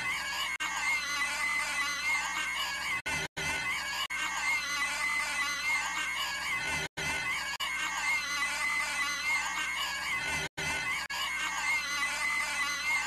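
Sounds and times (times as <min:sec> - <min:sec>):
cartoon girl's shrieking voice: 0:00.0 - 0:13.0.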